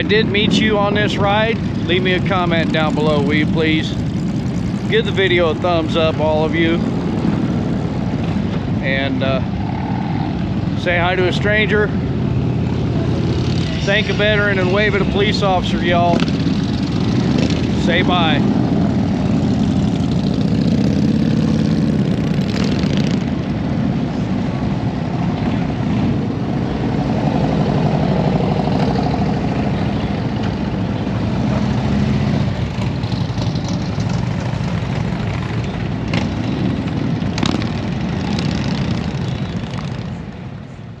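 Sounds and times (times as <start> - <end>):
motorcycle engine running: 0.0 - 40.7.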